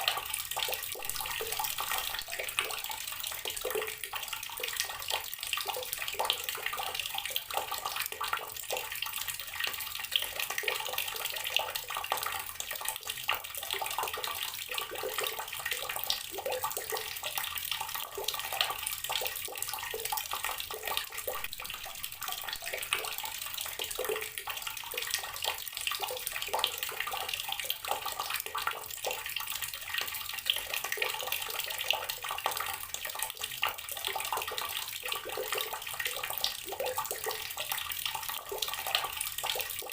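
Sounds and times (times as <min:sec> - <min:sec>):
tap water running into container: 0:00.0 - 0:39.9.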